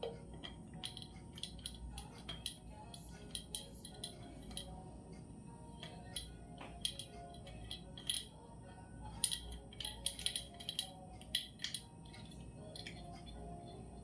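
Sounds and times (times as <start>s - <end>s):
small sharp clicks and clinks: 0.0s - 4.7s, 5.8s - 8.4s, 9.1s - 13.4s
low steady hum: 0.0s - 14.0s.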